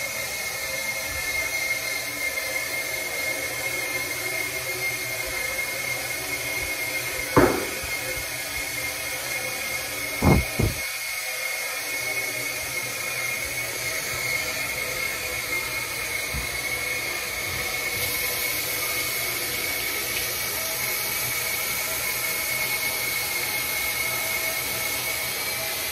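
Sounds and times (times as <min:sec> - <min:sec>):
thin high whine: 0:00.0 - 0:23.4
fan-like whir: 0:00.0 - 0:25.9.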